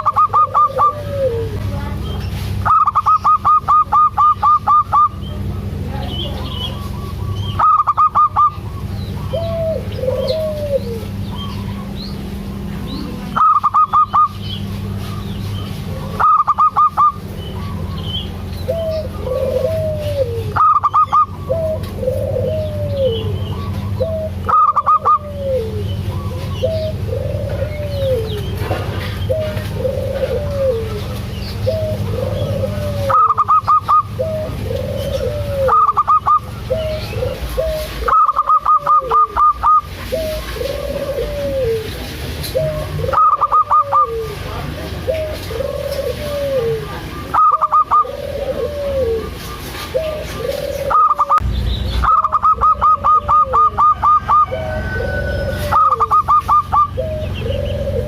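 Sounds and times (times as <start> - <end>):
dove cooing: 0.0 - 58.0
steady low hum: 0.0 - 58.0.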